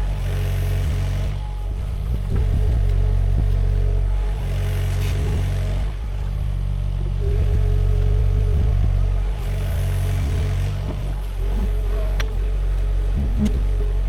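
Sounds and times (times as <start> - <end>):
excavator diesel engine: 0.0 - 14.0.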